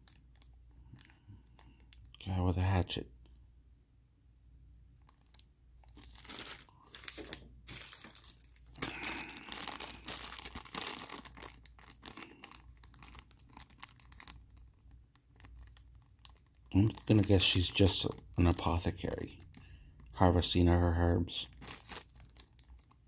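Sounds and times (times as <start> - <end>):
plastic bags crinkling: 0.0 - 2.2, 5.0 - 23.0.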